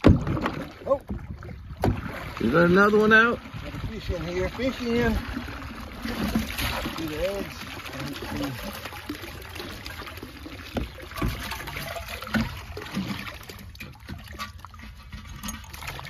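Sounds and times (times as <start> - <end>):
water trickling out: 1.6 - 16.0.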